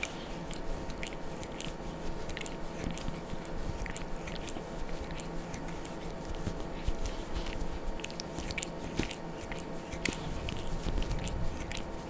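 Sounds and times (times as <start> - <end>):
cat licking fur: 0.0 - 12.0.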